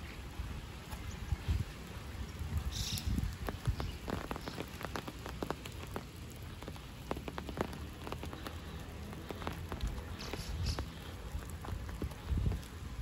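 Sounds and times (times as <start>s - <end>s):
low rain rumble: 0.0s - 13.0s
raindrops ticking: 0.0s - 13.0s.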